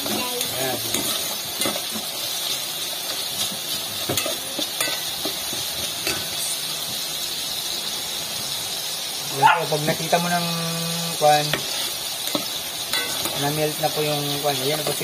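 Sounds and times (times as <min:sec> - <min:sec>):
garlic and tomatoes sizzling: 0:00.0 - 0:15.0.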